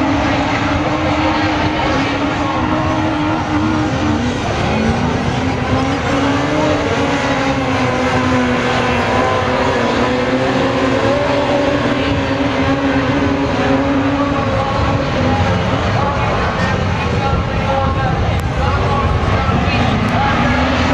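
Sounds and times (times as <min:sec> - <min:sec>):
racing car engines revving: 0:00.0 - 0:20.9.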